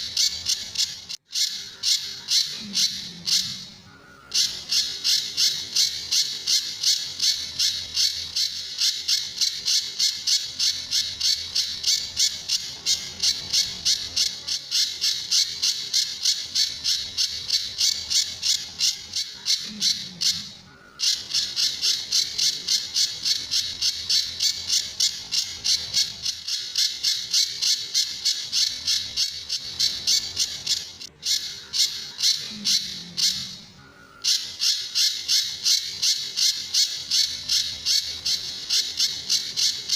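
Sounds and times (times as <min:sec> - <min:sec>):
songbird calling sharp high notes: 0:00.0 - 0:39.9.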